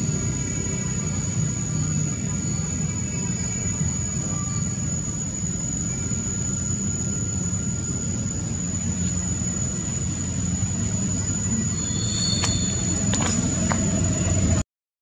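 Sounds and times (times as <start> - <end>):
faint high-pitched whine: 0.0 - 14.6
low background rumble: 0.0 - 14.6.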